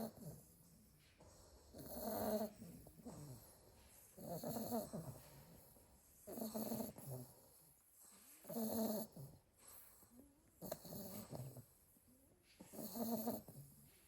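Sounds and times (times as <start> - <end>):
puppy snoring: 0.0 - 12.0, 12.6 - 14.0.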